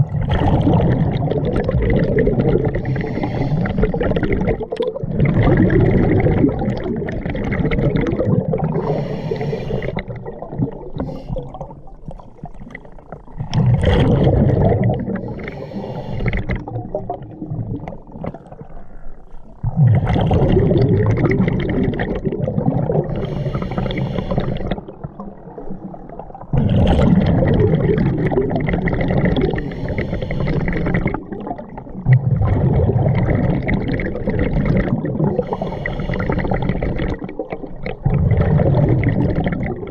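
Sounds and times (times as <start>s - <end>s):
bubbling regulator exhalations: 0.0s - 39.9s.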